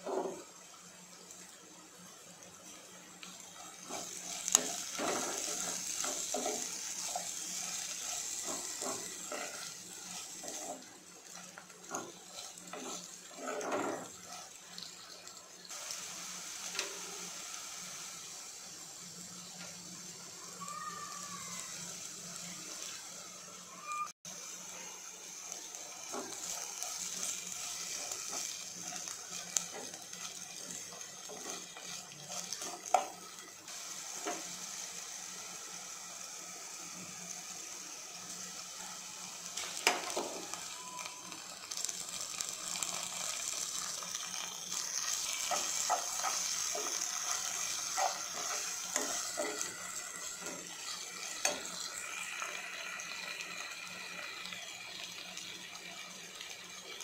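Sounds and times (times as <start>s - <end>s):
onions sizzling in hot oil: 0.0s - 57.0s.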